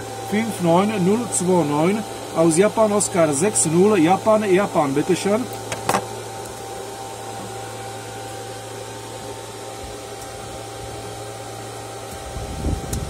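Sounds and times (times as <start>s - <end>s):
equipment low hum: 0.0s - 13.0s.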